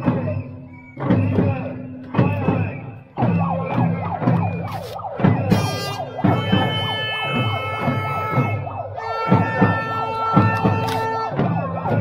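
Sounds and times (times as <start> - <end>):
music with pulsing beat: 0.0 - 12.0
siren-like wailing: 1.4 - 12.0.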